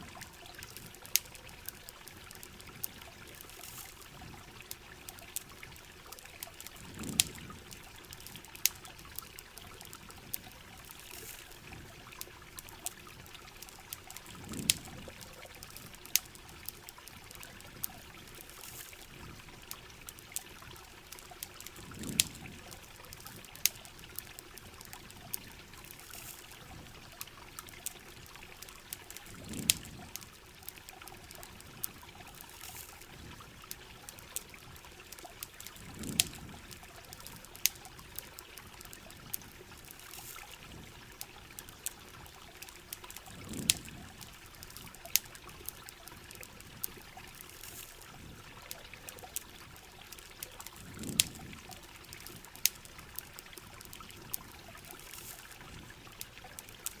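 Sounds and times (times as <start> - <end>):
campfire pops and crackles: 0.0 - 57.0
running river water: 0.0 - 57.0.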